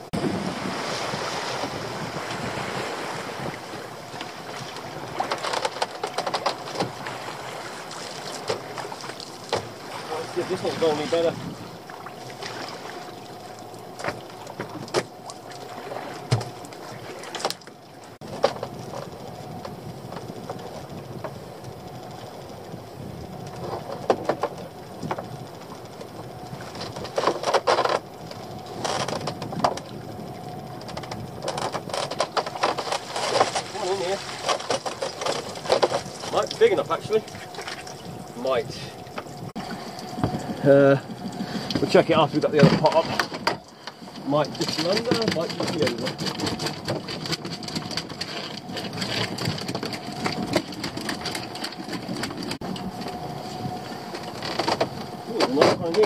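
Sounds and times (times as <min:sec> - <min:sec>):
water splashing: 0:00.0 - 0:22.7, 0:23.3 - 0:56.0
boat engine running: 0:00.0 - 0:56.0
outboard motor idling: 0:00.0 - 0:56.0.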